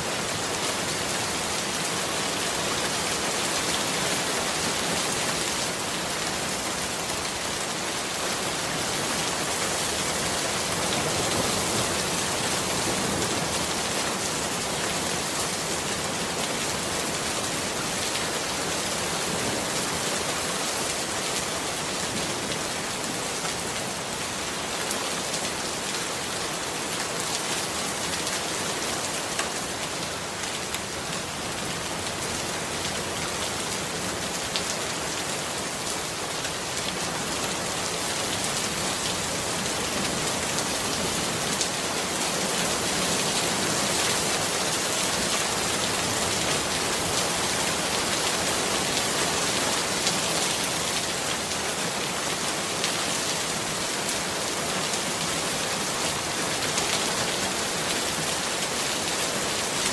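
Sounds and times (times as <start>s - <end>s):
steady rain on puddles and leaves: 0.0s - 59.9s.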